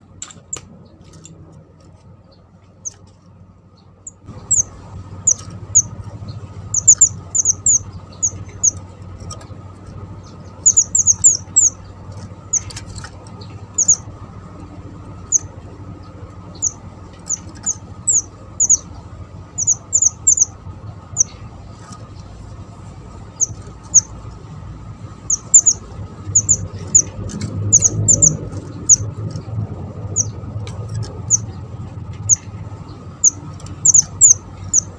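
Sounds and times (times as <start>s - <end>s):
bird chirping: 2.2s - 3.1s, 3.7s - 14.3s, 15.1s - 22.3s, 23.2s - 24.3s, 25.1s - 34.9s.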